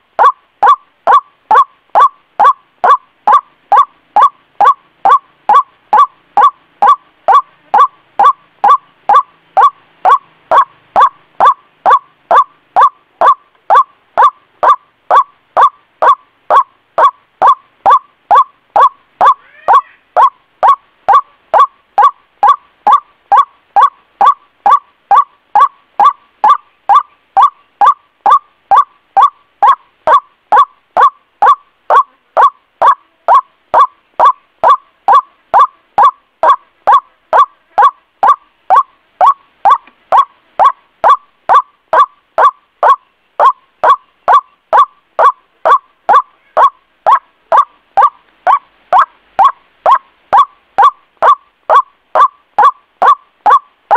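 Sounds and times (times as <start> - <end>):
waterhen calling: 0.0 - 53.9.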